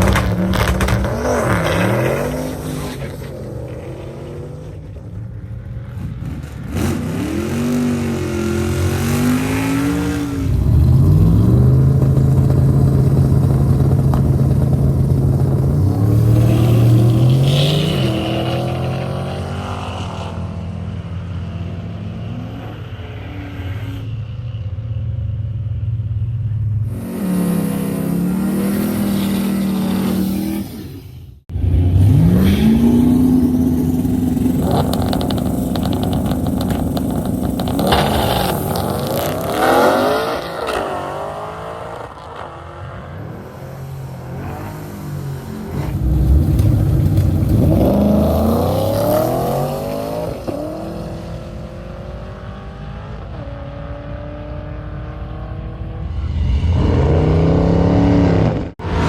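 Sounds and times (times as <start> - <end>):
car engine revving: 0.0 - 5.2, 6.0 - 24.3, 26.8 - 59.0.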